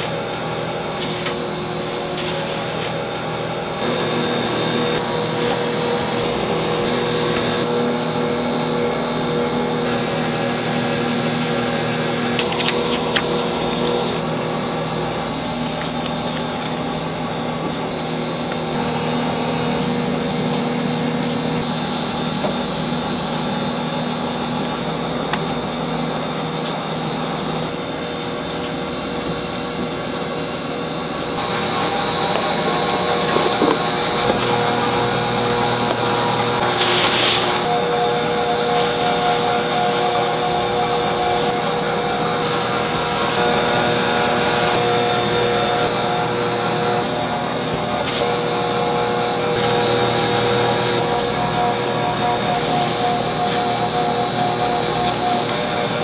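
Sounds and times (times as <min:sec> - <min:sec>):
machine hum and whir: 0:00.0 - 0:56.0.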